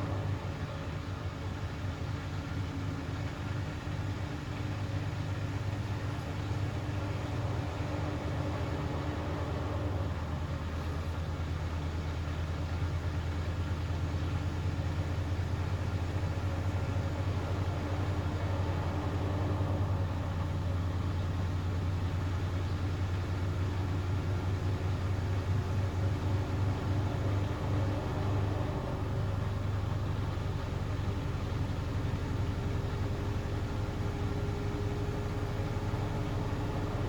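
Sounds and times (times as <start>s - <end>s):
washing machine humming and fluttering: 0.0s - 37.0s.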